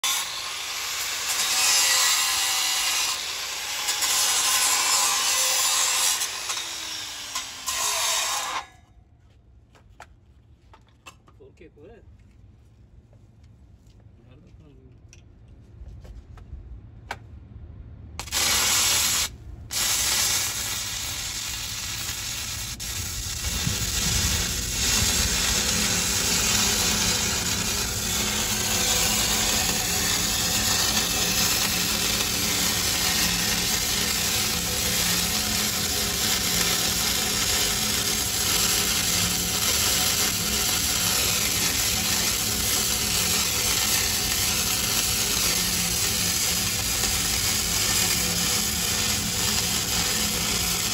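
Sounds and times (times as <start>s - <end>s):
welding arc sizzling: 0.0s - 8.7s, 18.2s - 50.9s.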